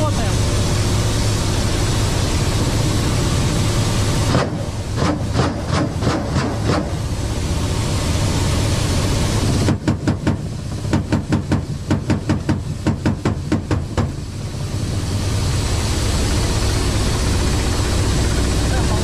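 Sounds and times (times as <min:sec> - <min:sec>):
helicopter rotor and engine rumble: 0:00.0 - 0:19.0.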